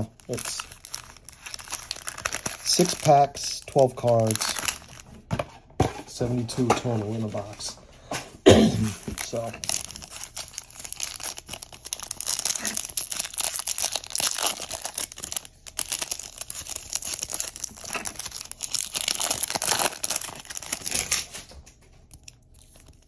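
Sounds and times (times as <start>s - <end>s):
foil wrapper tearing and crinkling: 0.0s - 5.1s, 8.8s - 21.5s, 22.1s - 23.0s.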